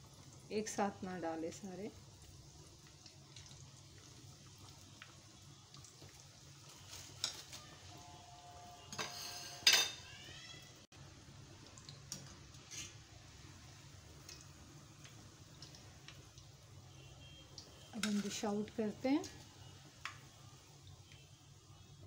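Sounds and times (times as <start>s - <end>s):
food frying in hot oil: 0.0s - 22.0s.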